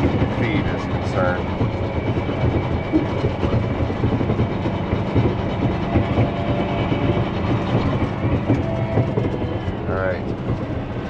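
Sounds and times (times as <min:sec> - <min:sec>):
truck engine rumbling: 0:00.0 - 0:11.0
truck rattling: 0:00.0 - 0:11.0.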